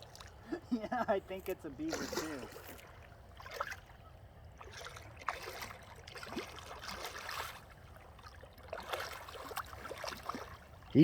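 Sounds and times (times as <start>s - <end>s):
small water splashes: 0.0s - 0.7s, 1.4s - 11.0s
water trickling and gurgling: 0.0s - 11.0s.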